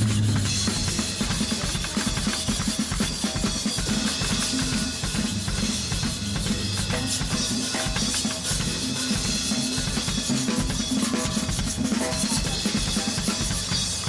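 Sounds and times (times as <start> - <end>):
drum kit and bass music: 0.0 - 14.0.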